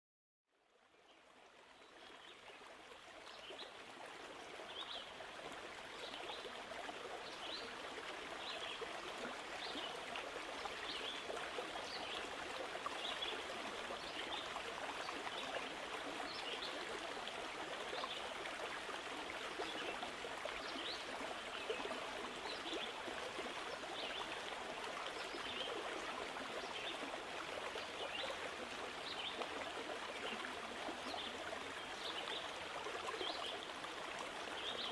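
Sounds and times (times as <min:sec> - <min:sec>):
running water: 0:01.2 - 0:34.9.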